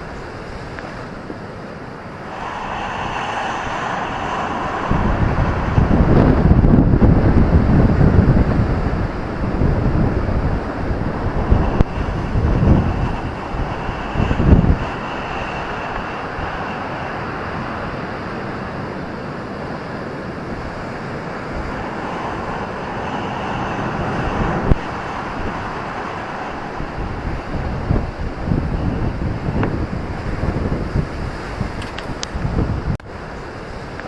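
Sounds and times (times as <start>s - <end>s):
surf breaking on beach: 0.0s - 34.0s
wind buffeting microphone: 0.0s - 34.0s.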